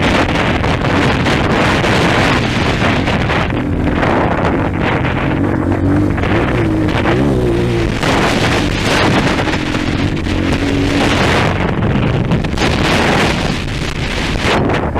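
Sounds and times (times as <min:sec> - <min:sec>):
motorcycle engine running: 0:00.0 - 0:14.9
wind buffeting on microphone: 0:00.0 - 0:14.9.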